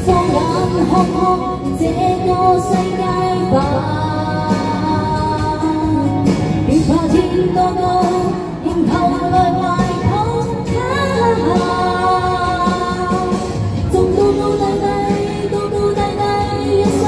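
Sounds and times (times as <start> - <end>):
backing track: 0.0 - 17.0
woman singing pop ballad: 0.0 - 17.0.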